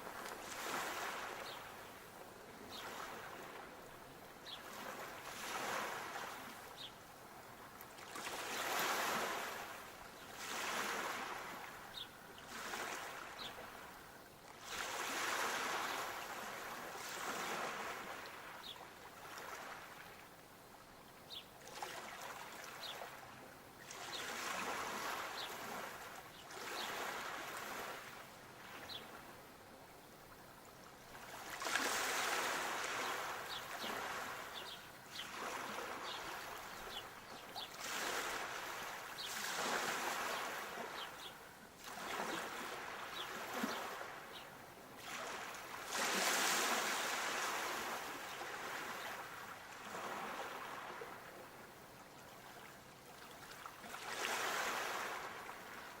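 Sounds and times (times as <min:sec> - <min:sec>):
sea waves breaking on shore: 0:00.0 - 0:01.9, 0:02.5 - 0:20.2, 0:21.6 - 0:29.3, 0:31.0 - 0:51.6, 0:52.4 - 0:56.0.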